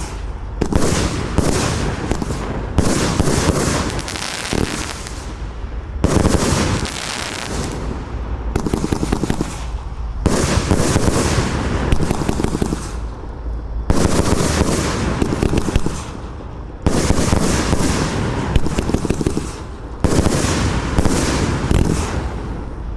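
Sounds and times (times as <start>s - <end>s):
firework cake firing volleys: 0.0s - 22.9s.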